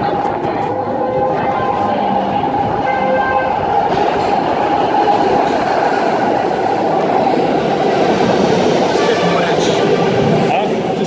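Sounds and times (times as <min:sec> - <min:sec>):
subway train rumbling: 0:00.0 - 0:11.0.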